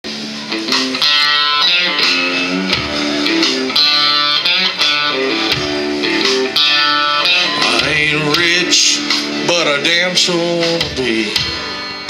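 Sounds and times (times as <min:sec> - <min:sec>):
bass guitar: 0:00.0 - 0:12.0
drums: 0:00.0 - 0:12.0
electric guitar: 0:00.0 - 0:12.0
acoustic guitar: 0:00.1 - 0:12.0.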